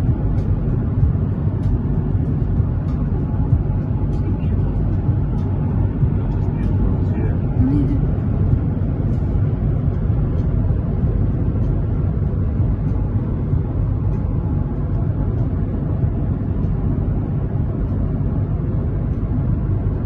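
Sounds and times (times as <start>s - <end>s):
car cabin road and engine noise: 0.0s - 20.0s.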